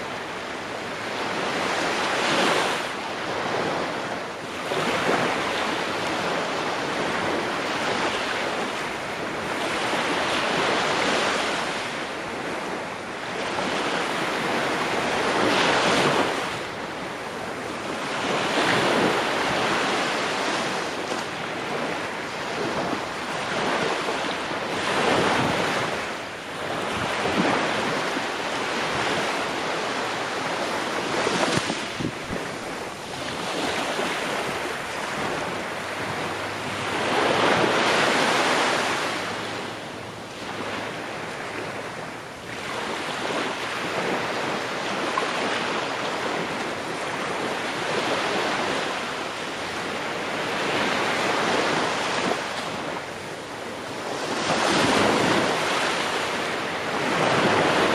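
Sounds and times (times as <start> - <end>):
ocean waves breaking on shore: 0.0 - 57.9.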